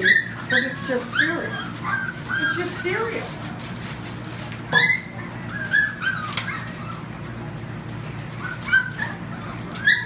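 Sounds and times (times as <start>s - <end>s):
puppies whimpering: 0.0s - 3.6s, 4.7s - 10.0s.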